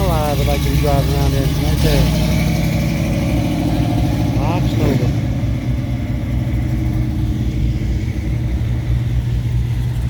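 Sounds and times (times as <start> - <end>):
car engine deep rumble: 0.0 - 10.0.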